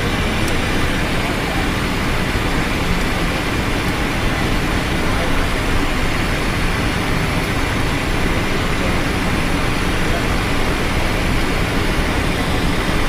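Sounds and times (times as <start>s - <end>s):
jet engine and airflow rush: 0.0s - 13.0s.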